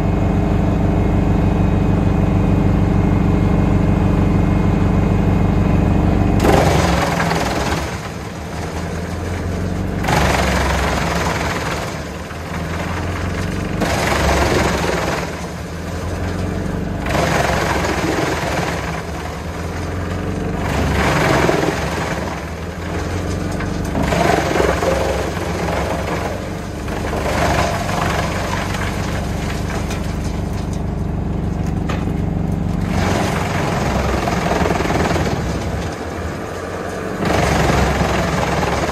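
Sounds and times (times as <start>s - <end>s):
tractor engine running: 0.0s - 38.9s
wood chipper grinding logs: 0.0s - 38.9s.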